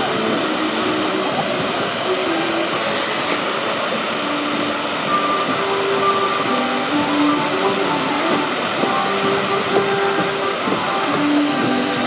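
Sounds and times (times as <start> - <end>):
fountain water rushing: 0.0 - 12.0.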